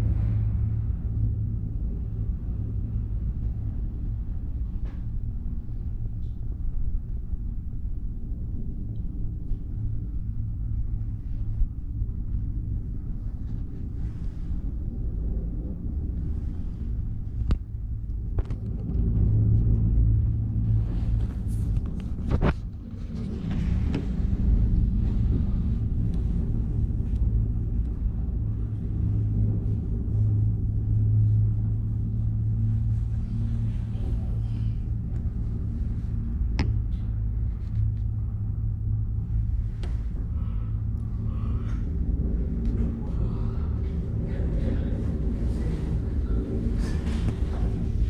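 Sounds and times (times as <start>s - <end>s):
gondola cabin low rumble: 0.0s - 48.0s.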